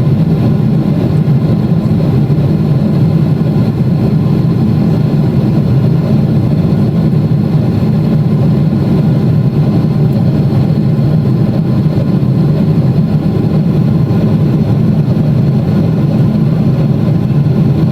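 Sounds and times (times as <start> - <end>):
airplane cabin drone: 0.0 - 17.9.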